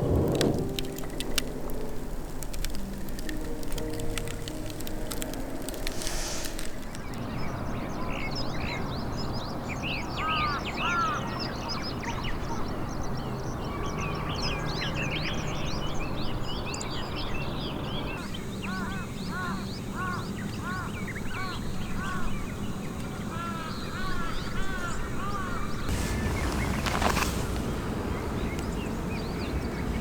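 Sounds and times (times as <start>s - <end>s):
small birds chirping: 0.8s - 30.0s.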